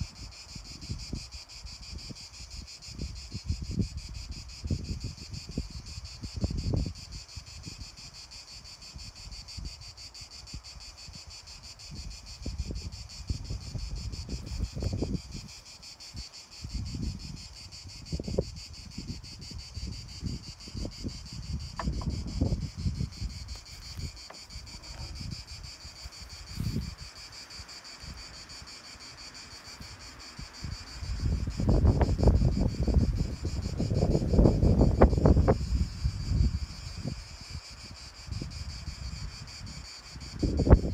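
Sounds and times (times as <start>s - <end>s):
cicadas buzzing: 0.0s - 40.9s
insects chirring: 0.0s - 40.9s
wind rumbling on microphone: 0.0s - 40.9s.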